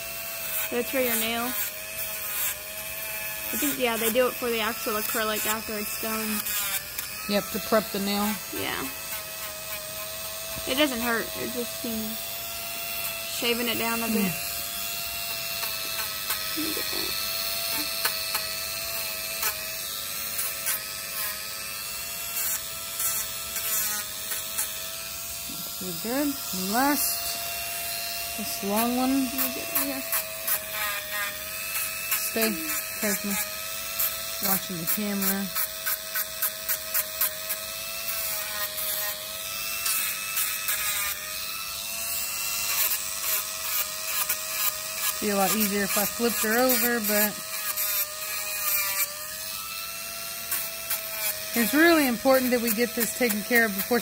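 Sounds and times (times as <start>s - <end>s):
grinding rasp on nail: 0.0s - 54.0s
rotary tool whining: 0.0s - 54.0s.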